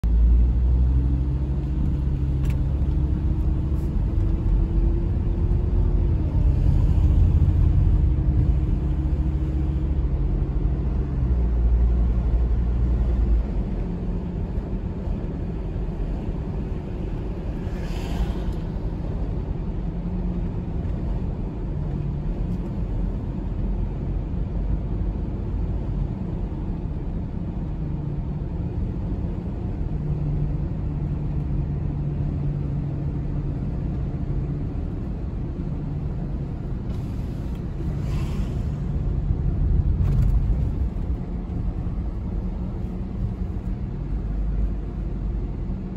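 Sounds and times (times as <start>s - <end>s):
car engine: 0.0s - 45.9s
road rumble: 0.0s - 45.9s.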